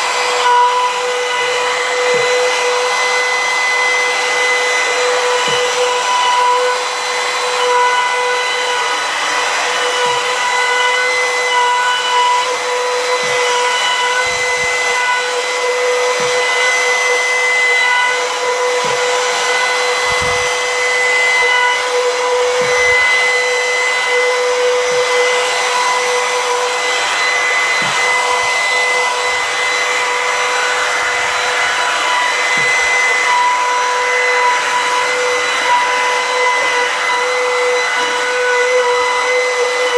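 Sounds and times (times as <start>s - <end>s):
router whining: 0.0s - 39.9s
wood shaving hiss: 0.0s - 39.9s.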